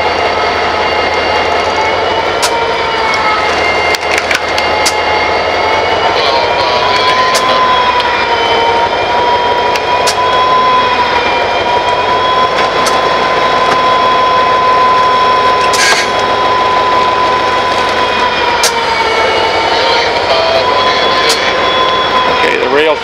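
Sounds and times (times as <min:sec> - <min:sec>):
locomotive diesel engine running: 0:00.0 - 0:23.0
turbocharger whine: 0:00.0 - 0:23.0.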